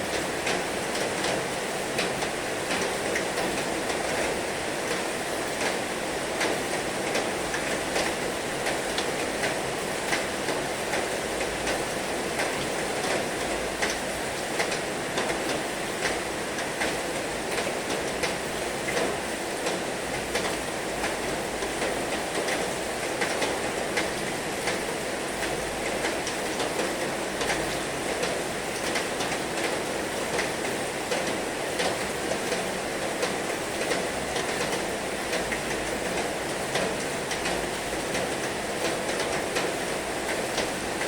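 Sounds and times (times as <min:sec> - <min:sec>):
heavy rain on hard surface: 0:00.0 - 0:41.0.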